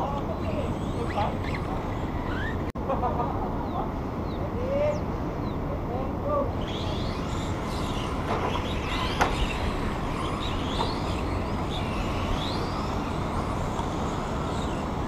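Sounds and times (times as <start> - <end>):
small electric motors whining: 0.0 - 15.0
traffic-like background noise: 0.0 - 15.0.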